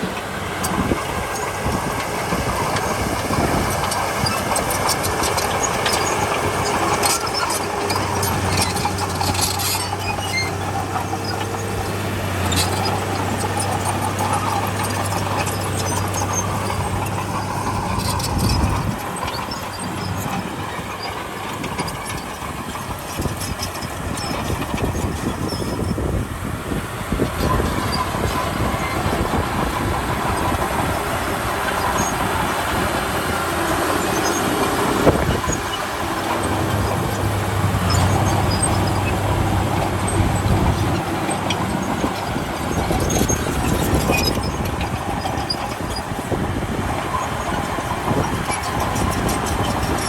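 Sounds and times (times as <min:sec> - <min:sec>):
bulldozer diesel engine: 0:00.0 - 0:50.0
steel tracks clanking and squealing: 0:00.0 - 0:50.0.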